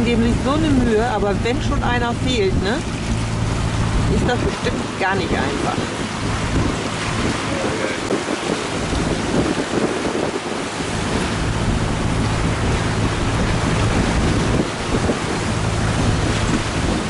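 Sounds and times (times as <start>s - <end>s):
boat engine drone: 0.0s - 17.0s
choppy sea water rushing: 0.0s - 17.0s
wind buffeting microphone: 0.0s - 17.0s.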